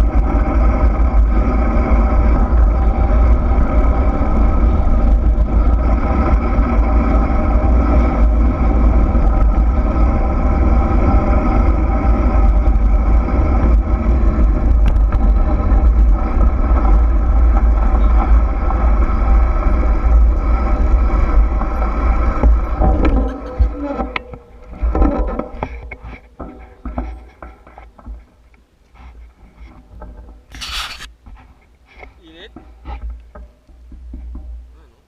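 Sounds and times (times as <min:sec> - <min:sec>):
wind buffeting microphone: 0:00.0 - 0:34.9
steady rolling hum: 0:00.0 - 0:35.0.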